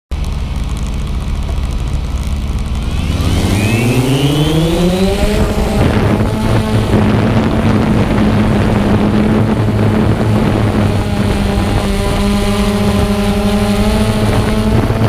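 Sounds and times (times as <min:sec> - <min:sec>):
drone motors humming and whining: 0:00.2 - 0:15.0.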